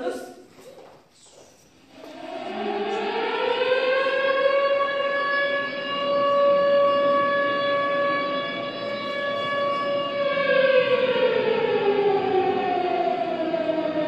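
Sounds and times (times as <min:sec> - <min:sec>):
siren winding up and holding: 0:02.0 - 0:14.0.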